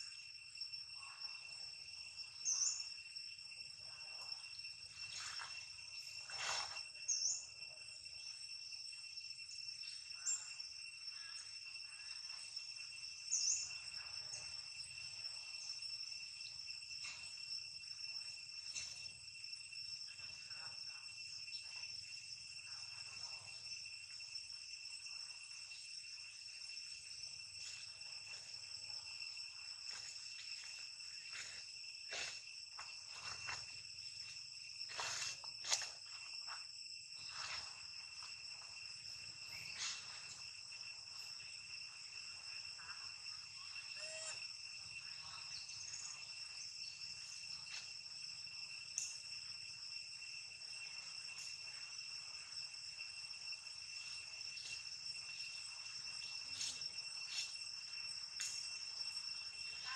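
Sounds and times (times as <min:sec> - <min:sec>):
insect chorus droning: 0:00.0 - 0:59.9.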